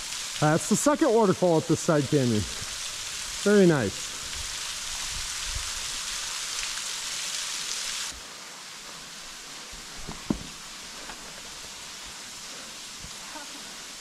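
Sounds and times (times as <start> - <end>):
rushing water: 0.0 - 14.0
waterfall splashing on rock: 0.0 - 14.0.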